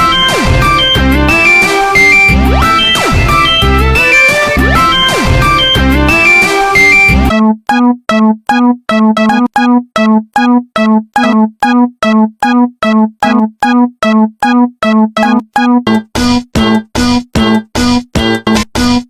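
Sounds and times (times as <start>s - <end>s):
busy electronic music: 0.0s - 19.0s.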